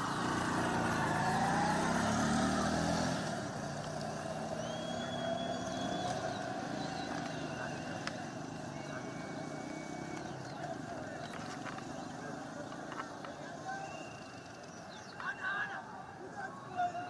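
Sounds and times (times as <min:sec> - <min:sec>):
vehicle engine running: 0:00.0 - 0:15.1.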